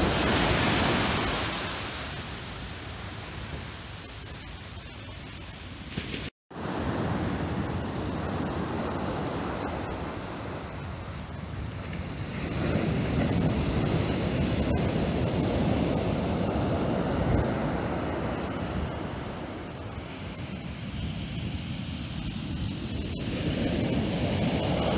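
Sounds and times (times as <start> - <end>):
surf breaking on beach: 0.0 - 5.0, 5.9 - 24.9
wind buffeting microphone: 0.0 - 24.9.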